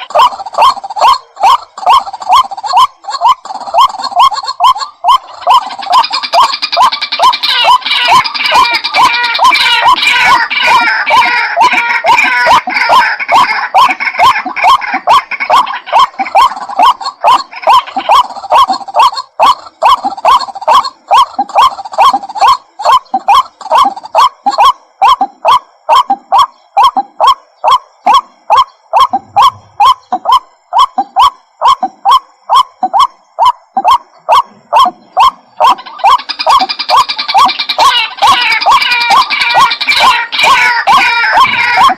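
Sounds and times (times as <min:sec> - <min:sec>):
waterhen calling: 0:00.0 - 0:41.9.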